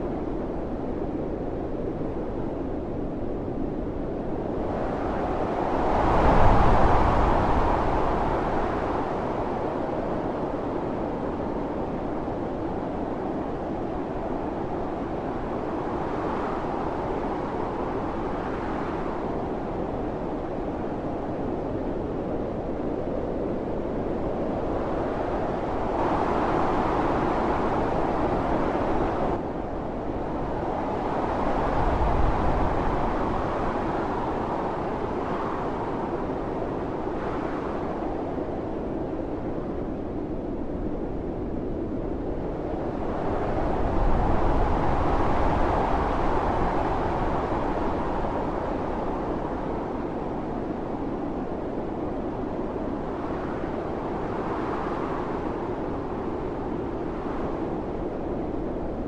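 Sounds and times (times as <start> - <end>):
blizzard wind gusting: 0.0 - 59.0.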